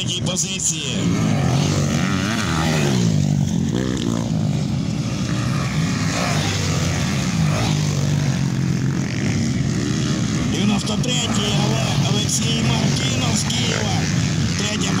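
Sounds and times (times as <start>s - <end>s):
motocross bike engines revving: 0.0s - 15.0s
motorbike passing close: 0.9s - 15.0s.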